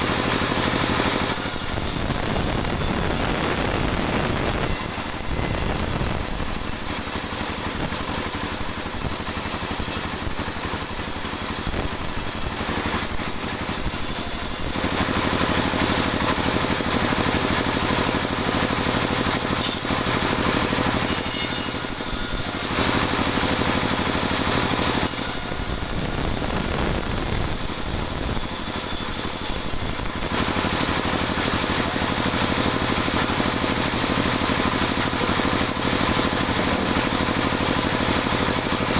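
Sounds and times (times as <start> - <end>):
bandsaw cutting wood: 0.0 - 38.9.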